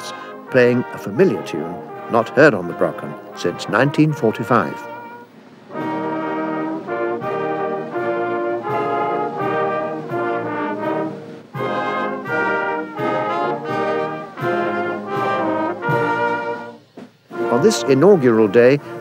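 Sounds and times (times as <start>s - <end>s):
brass band playing slow chords: 0.0s - 19.0s.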